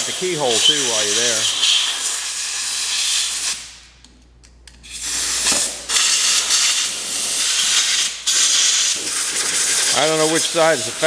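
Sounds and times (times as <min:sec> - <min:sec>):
compressed air blow gun hissing: 0:00.0 - 0:03.5, 0:05.0 - 0:11.0.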